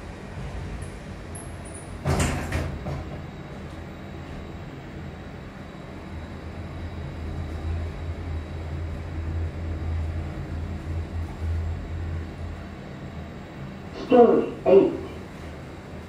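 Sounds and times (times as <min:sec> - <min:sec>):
lift car humming and rumbling: 0:00.0 - 0:16.0.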